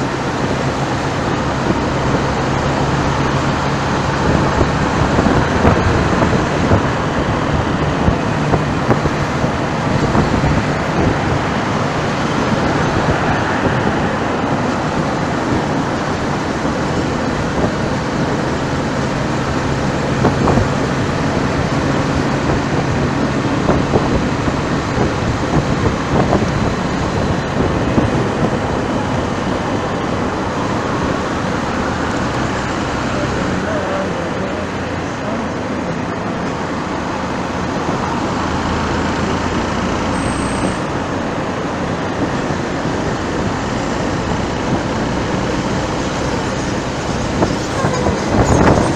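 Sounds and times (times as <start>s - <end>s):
low engine hum: 0.0s - 48.9s
road traffic: 0.0s - 48.9s
wind noise: 0.0s - 48.9s.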